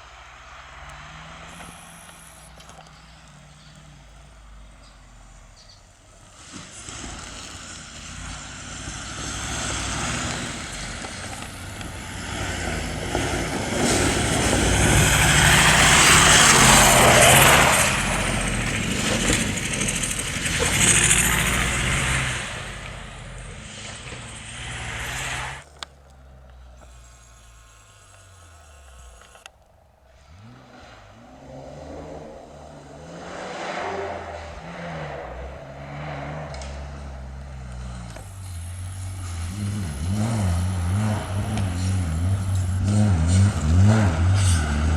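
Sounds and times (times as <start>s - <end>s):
rally car passing revving hard: 0.0s - 26.8s, 30.0s - 44.9s.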